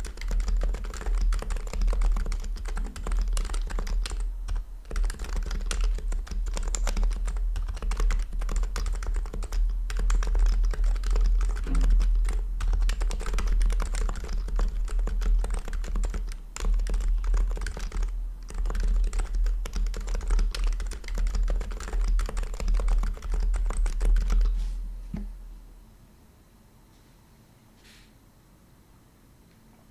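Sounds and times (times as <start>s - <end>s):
fast typing on keyboard: 0.0s - 24.6s.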